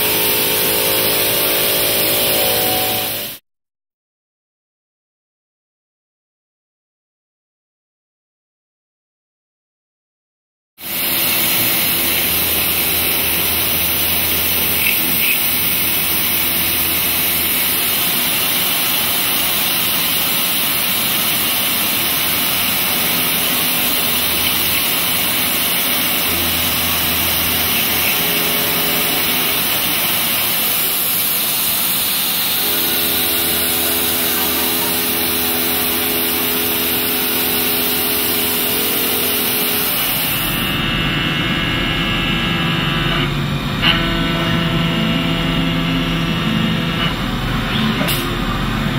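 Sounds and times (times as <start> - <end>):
milling machine cutting metal: 0.0 - 3.4, 10.8 - 48.9.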